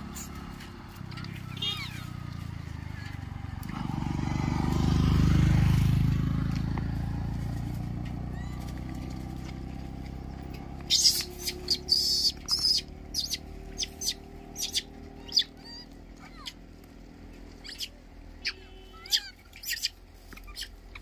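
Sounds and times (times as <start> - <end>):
motorcycle passing: 0.0 - 21.0.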